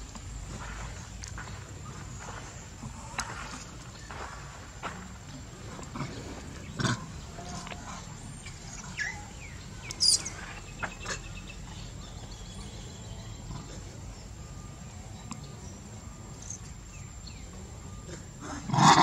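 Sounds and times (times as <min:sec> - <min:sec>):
low outdoor background hum: 0:00.0 - 0:19.0.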